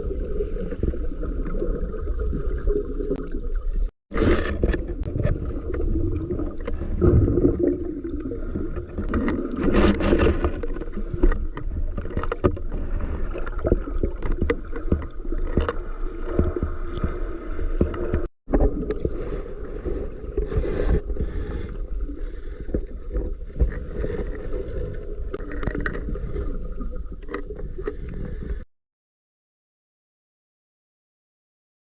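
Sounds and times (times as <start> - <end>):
underwater rushing water: 0.0 - 28.5.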